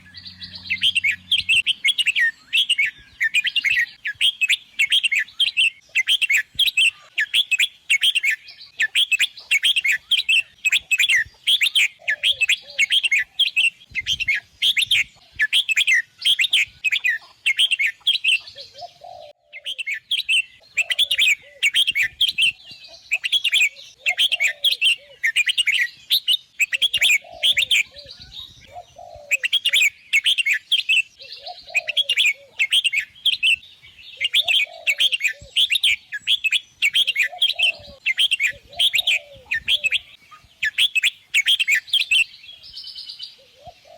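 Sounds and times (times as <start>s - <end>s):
bird singing warbled phrases: 0.0s - 43.9s.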